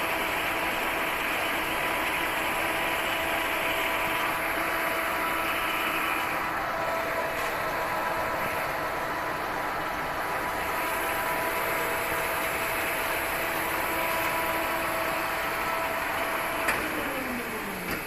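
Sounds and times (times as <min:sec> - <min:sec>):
lathe spindle whine: 0:00.0 - 0:18.0.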